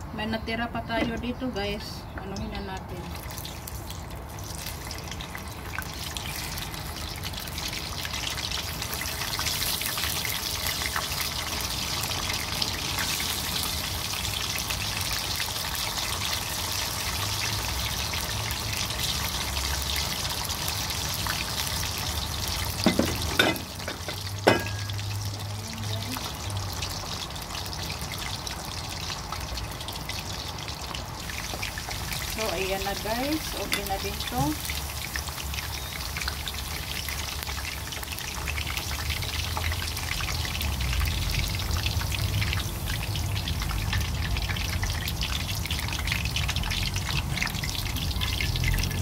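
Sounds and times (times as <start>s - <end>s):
potato slices sizzling in oil: 0.2s - 49.0s.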